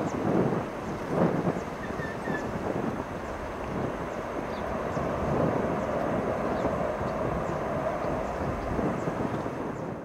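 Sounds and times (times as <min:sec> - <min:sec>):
jet aircraft climbing: 0:00.0 - 0:10.0.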